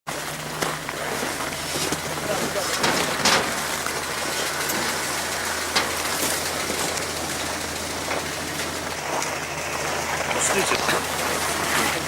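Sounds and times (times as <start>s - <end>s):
engine humming: 0.1s - 12.0s.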